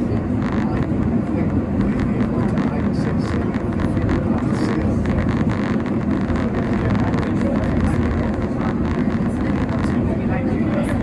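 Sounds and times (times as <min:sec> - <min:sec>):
funicular carriage rumbling: 0:00.0 - 0:11.0.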